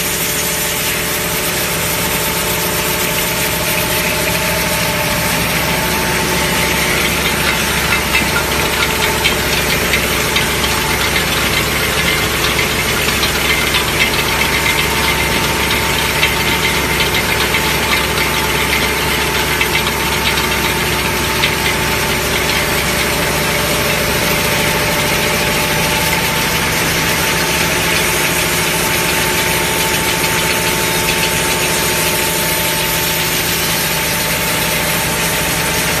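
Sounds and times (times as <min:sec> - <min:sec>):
machine hum: 0:00.0 - 0:36.0.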